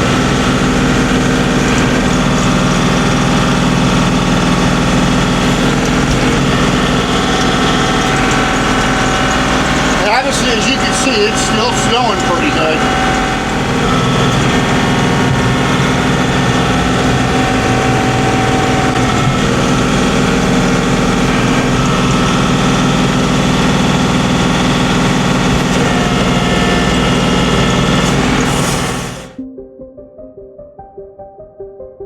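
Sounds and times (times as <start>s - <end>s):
road noise: 0.0s - 29.4s
vehicle engine driving: 0.0s - 29.4s.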